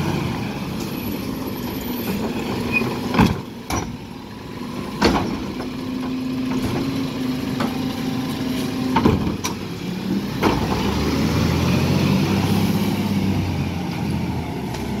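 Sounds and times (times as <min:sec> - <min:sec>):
diesel truck engine pulling away: 0:00.0 - 0:15.0.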